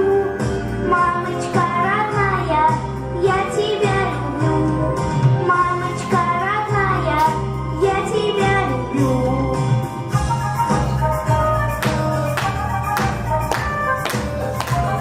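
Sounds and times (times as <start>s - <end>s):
instrumental backing track with bass: 0.0s - 15.0s.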